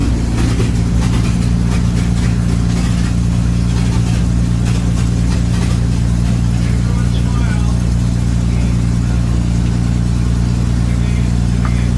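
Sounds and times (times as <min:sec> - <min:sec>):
piston engine droning: 0:00.0 - 0:11.9.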